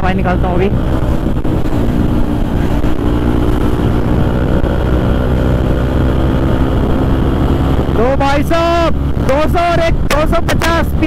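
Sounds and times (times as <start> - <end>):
low wind rumble: 0.0 - 11.0
motorcycle engine running: 0.0 - 11.0.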